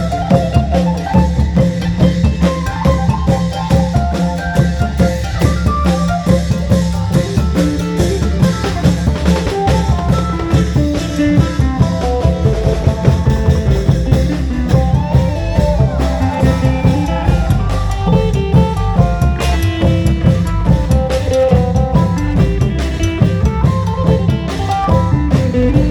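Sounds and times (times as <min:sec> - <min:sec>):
long drums and percussion: 0:00.0 - 0:25.9.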